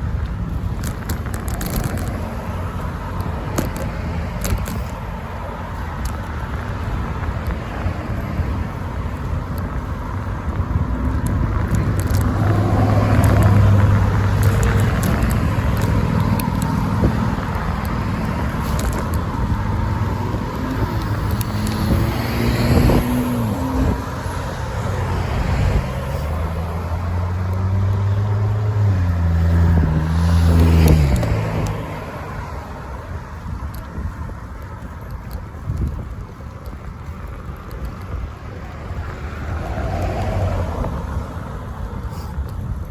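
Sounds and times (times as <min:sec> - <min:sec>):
road and wind noise: 0:00.0 - 0:42.9
vehicles passing by: 0:00.0 - 0:42.9.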